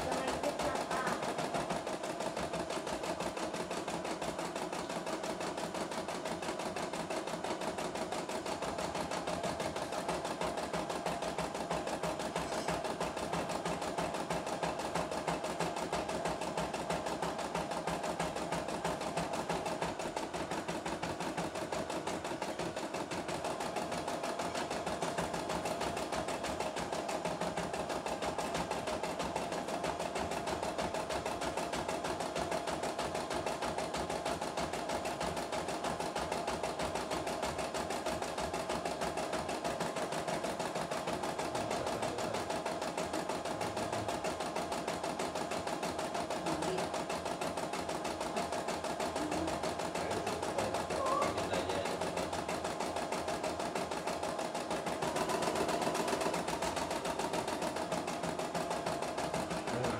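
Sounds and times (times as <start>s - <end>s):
embroidery machine stitching: 0.0s - 59.9s.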